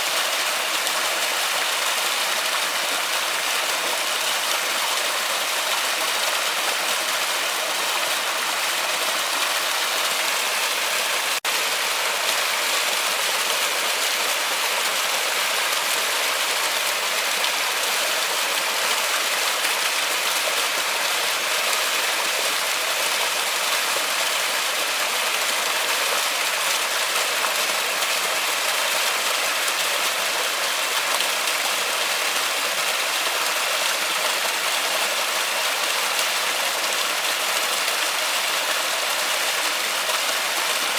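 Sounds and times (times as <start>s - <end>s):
waterfall rushing: 0.0s - 25.6s, 30.5s - 40.9s.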